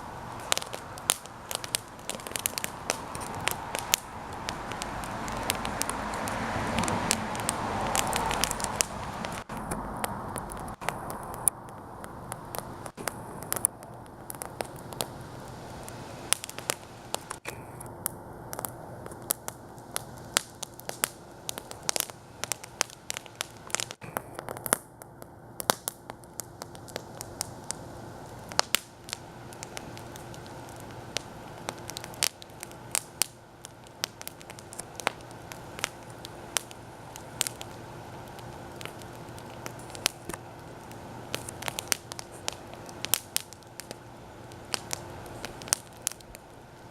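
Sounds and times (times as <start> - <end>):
campfire crackling and popping: 0.0 - 46.9
steady fire hiss: 0.0 - 46.9.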